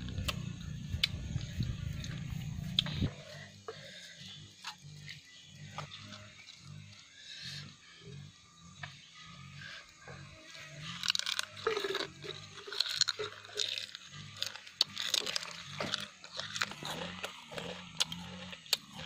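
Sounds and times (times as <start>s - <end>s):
chewing and crunching insects: 0.0s - 19.0s.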